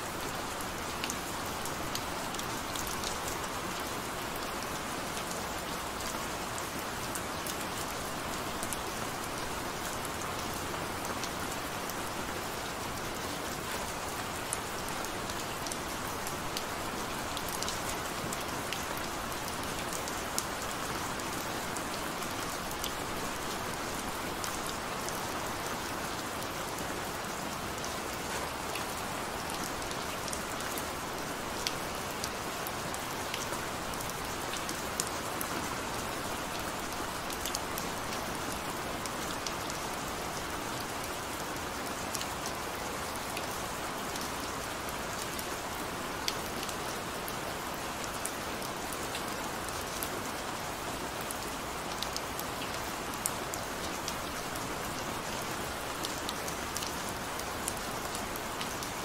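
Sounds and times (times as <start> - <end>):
gentle rain hiss: 0.0 - 59.0.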